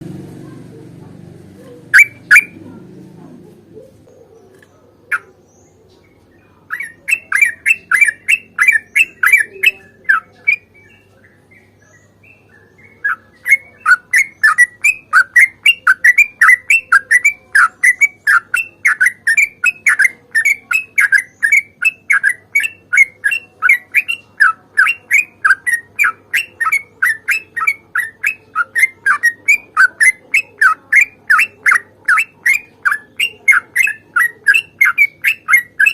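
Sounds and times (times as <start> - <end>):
bird singing rolling chirps: 1.6 - 35.9.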